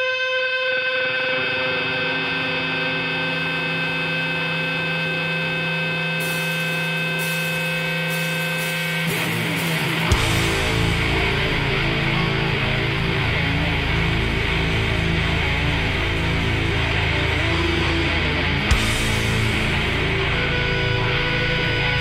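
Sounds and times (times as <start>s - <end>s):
electric guitar chord ringing: 0.0s - 22.0s
heavy metal band playing: 0.0s - 22.0s.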